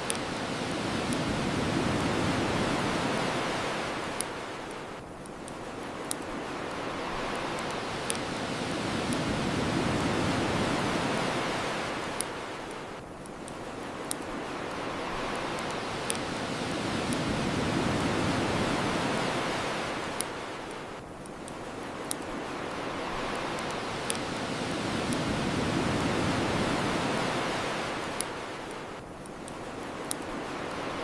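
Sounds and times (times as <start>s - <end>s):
ocean waves washing ashore: 0.0s - 31.0s
wood fire crackling: 0.0s - 31.0s.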